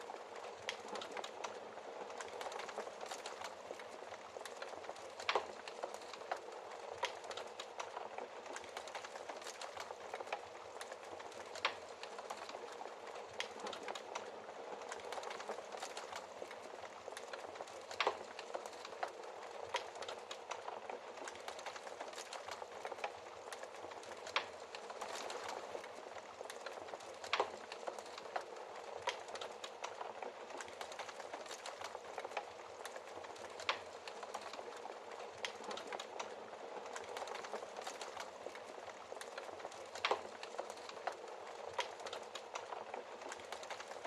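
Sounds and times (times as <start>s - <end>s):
wood fire crackling in fireplace: 0.0s - 44.0s.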